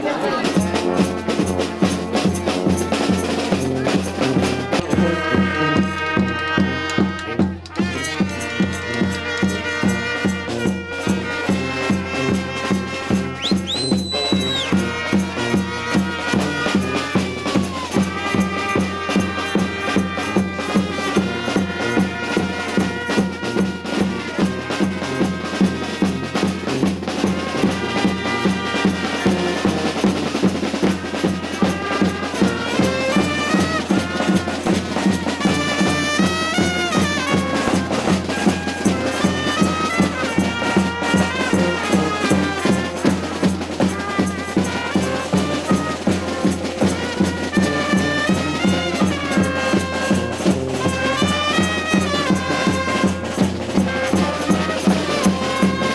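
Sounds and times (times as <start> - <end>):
traditional dance music: 0.0 - 55.9.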